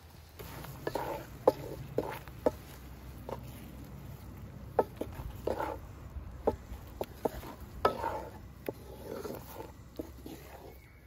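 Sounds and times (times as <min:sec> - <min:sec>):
steady low rumble: 0:00.3 - 0:10.2.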